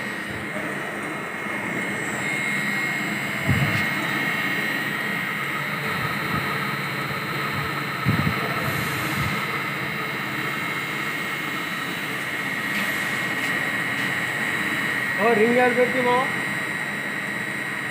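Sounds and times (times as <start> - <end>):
high steady whine: 0.0 - 17.9
machinery drone: 0.0 - 17.9.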